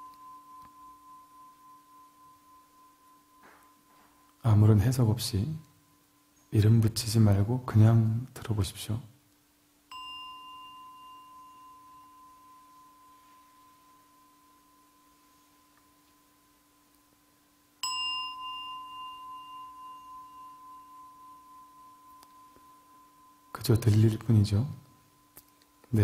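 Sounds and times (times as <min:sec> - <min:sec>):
small bell ringing: 0:00.0 - 0:06.6, 0:09.9 - 0:17.2, 0:17.8 - 0:26.0.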